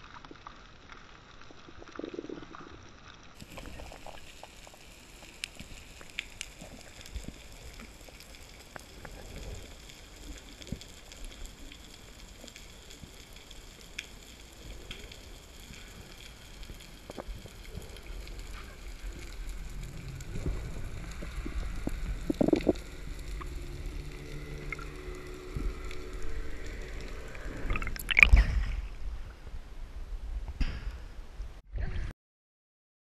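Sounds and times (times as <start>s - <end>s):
underwater clicks and crackles: 0.0s - 29.0s
muffled underwater rush: 3.4s - 30.1s.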